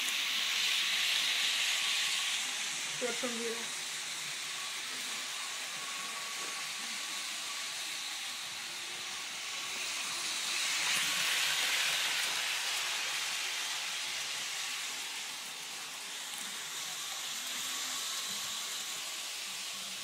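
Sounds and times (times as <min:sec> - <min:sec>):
model trains running: 0:00.0 - 0:20.0.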